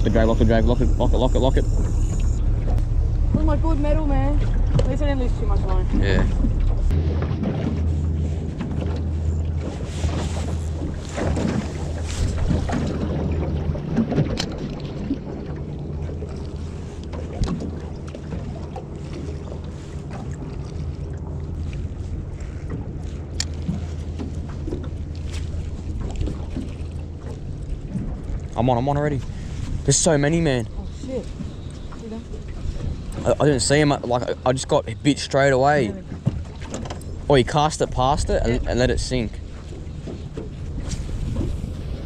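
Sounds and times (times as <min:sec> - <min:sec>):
boat engine humming: 0:00.0 - 0:42.0
sharp clicks and knocks on boat: 0:00.0 - 0:42.0.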